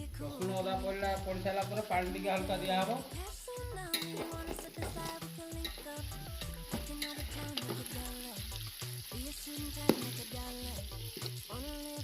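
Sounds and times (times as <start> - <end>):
meat sizzling in a pot: 0.0 - 12.0
music with held notes: 0.0 - 12.0.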